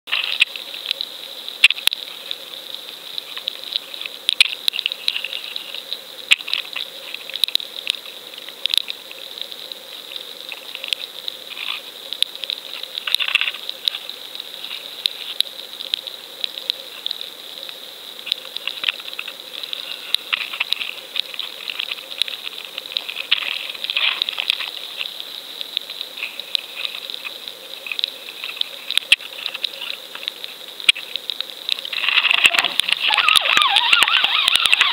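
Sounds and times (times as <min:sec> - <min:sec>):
sharp underwater clicks: 0:00.1 - 0:34.9
swishing water rushes: 0:00.1 - 0:34.9
underwater hiss: 0:00.2 - 0:34.9.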